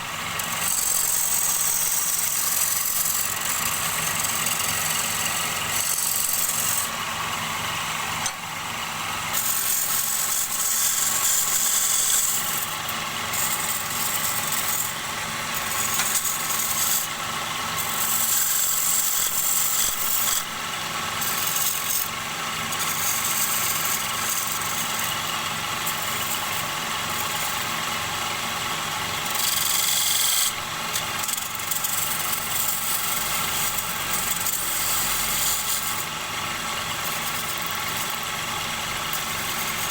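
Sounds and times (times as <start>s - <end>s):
tool cutting wood hiss: 0.0s - 8.4s, 9.3s - 39.9s
lathe motor humming: 0.1s - 39.9s.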